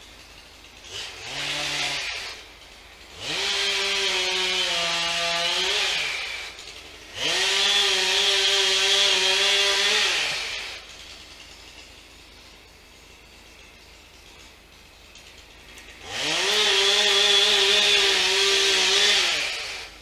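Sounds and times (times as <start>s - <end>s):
chainsaw engine revving: 0.0s - 13.8s, 14.5s - 20.0s.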